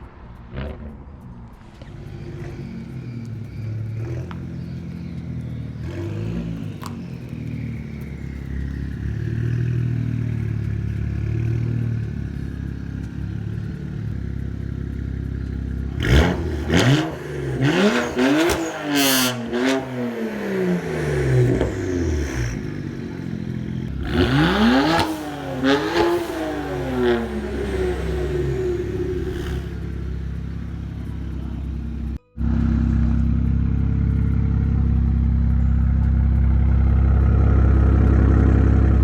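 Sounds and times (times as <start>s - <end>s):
car engine revving: 0.0s - 39.0s
exhaust cracks and pops: 0.0s - 39.0s.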